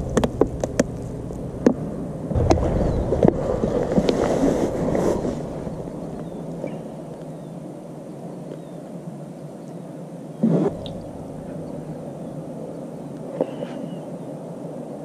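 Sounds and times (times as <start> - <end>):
water at the shore: 0.0 - 15.0
wind: 0.0 - 15.0.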